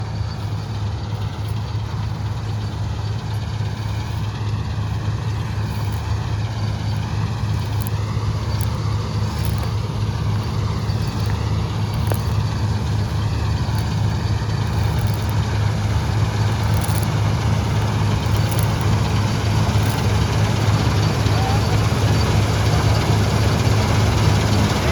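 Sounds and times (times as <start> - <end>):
combine harvester engine drone: 0.0 - 24.9.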